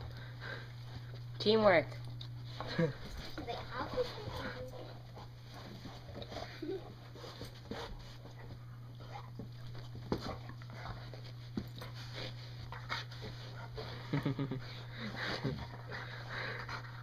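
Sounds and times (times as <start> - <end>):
dogs scuffling and sniffing: 0.0 - 17.0.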